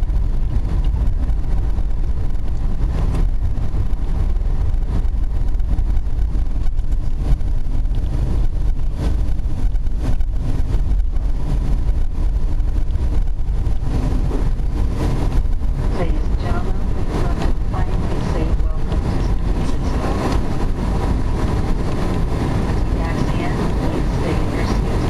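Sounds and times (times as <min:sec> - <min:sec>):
airliner engine noise: 0:00.0 - 0:25.0
wheels rumbling on pavement: 0:00.0 - 0:25.0.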